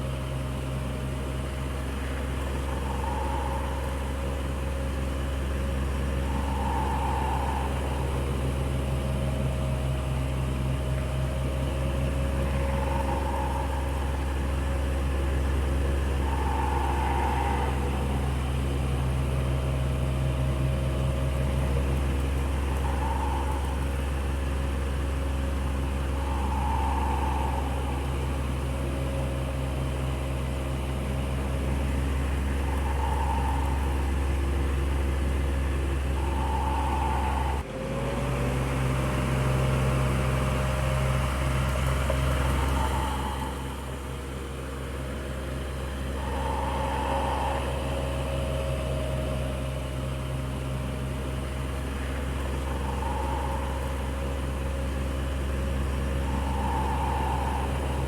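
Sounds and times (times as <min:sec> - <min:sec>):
electric fan running: 0:00.0 - 0:37.7, 0:38.7 - 0:58.0.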